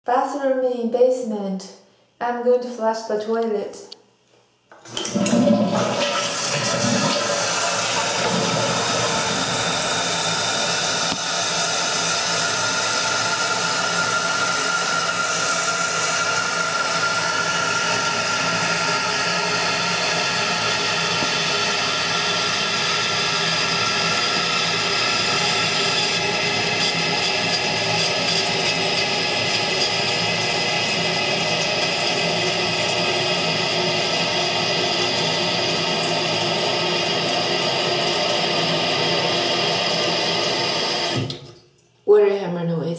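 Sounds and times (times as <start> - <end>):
toilet tank refilling: 4.8 - 41.5.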